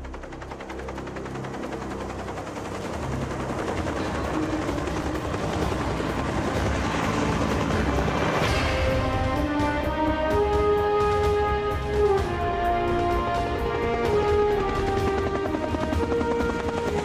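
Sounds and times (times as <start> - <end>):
helicopter rotor chopping: 0.0 - 17.0
low turbine drone: 0.0 - 17.0.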